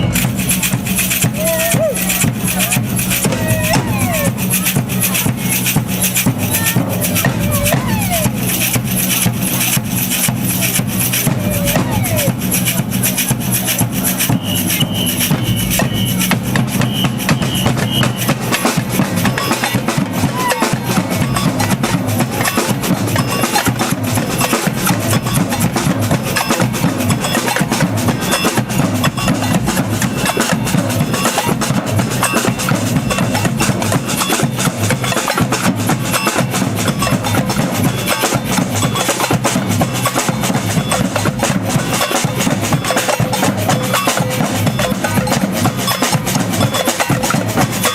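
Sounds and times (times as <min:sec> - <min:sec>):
samba band drumming: 0:00.0 - 0:47.9.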